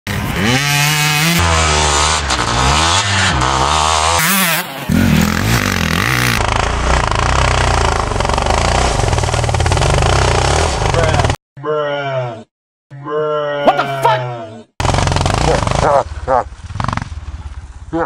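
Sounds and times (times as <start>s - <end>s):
dirt bike engines revving: 0.1s - 11.4s, 13.6s - 18.0s.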